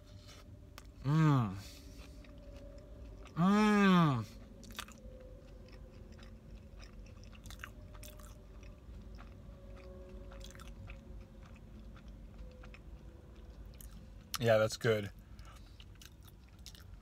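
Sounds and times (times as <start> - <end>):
faint low hum: 0.0 - 17.0
person chewing pizza: 0.1 - 17.0.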